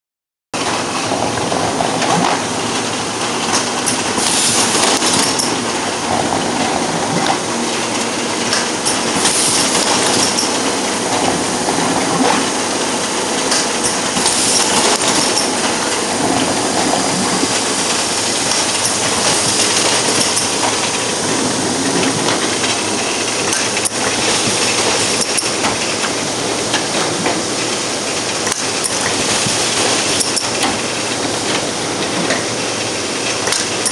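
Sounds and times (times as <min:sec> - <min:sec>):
machine rollers clattering: 0:00.6 - 0:33.9
hissy machine bursts: 0:02.4 - 0:33.9.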